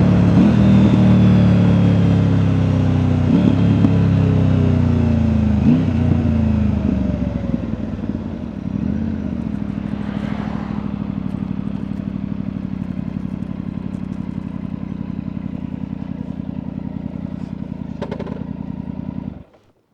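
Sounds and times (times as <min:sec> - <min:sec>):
motorcycle engine idling: 0:00.0 - 0:19.8.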